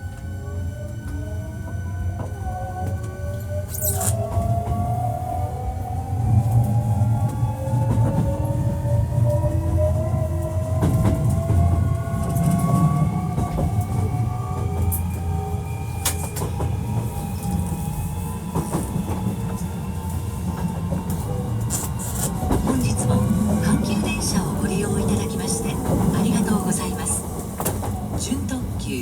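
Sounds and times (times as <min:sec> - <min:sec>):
wheels rumbling on rail: 0:00.0 - 0:29.0.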